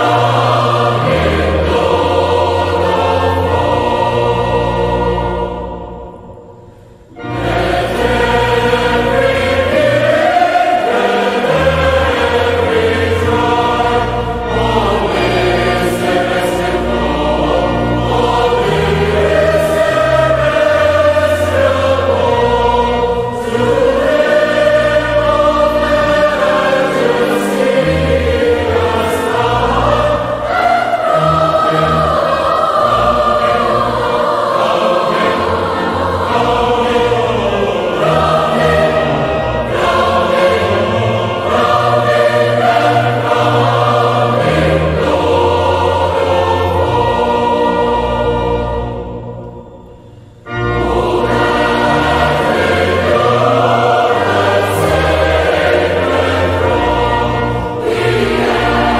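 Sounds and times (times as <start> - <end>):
choir singing slow hymn-like piece: 0.0 - 58.9.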